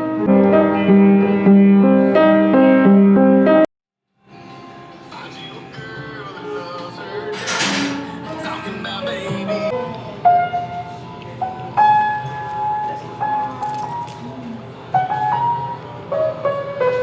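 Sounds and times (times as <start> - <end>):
music with held notes: 0.0 - 3.6, 4.2 - 17.0.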